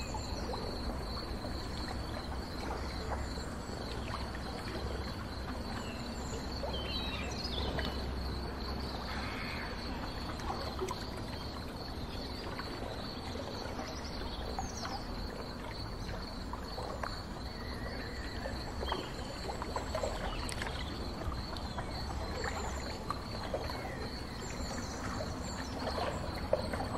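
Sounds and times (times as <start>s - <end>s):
boat low rumble: 0.0s - 26.9s
water washing against hull: 0.0s - 26.9s.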